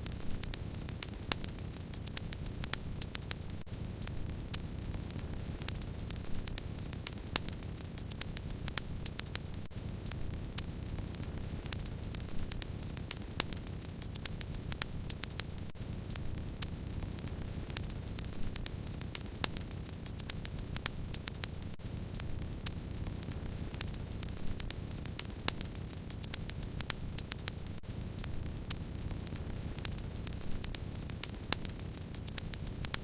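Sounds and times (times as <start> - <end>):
wood fire rushing flame: 0.0 - 32.8
fire crackles and pops: 0.0 - 33.0.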